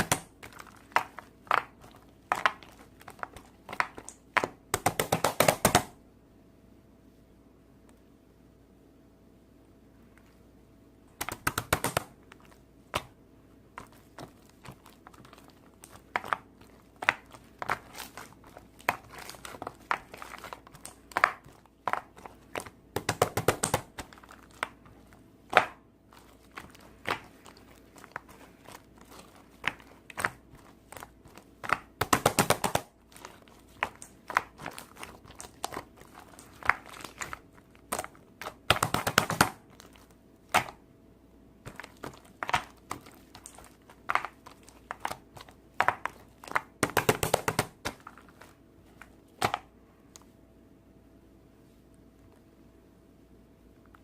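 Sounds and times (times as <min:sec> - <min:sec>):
rapid clicking or crinkling: 0:00.0 - 0:06.0, 0:11.1 - 0:40.8, 0:41.7 - 0:49.7.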